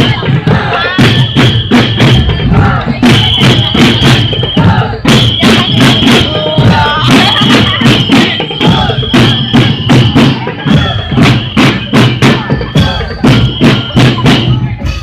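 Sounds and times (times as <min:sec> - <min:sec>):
high held tone: 0:00.0 - 0:15.0
parade drums beating: 0:00.0 - 0:15.0.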